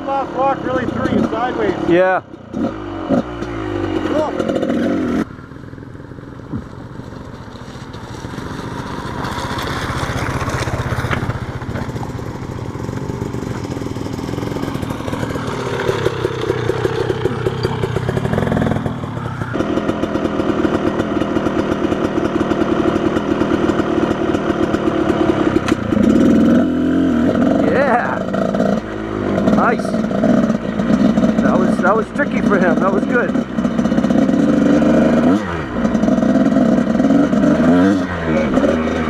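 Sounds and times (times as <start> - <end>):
motorcycle engine revving and idling: 0.0 - 39.0.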